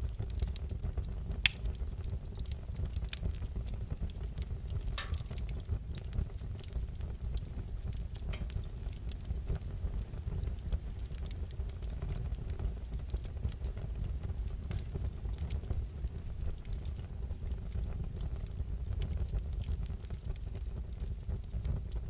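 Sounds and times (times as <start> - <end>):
low rumble of flames: 0.0 - 22.0
wood fire crackling and popping: 0.0 - 22.0.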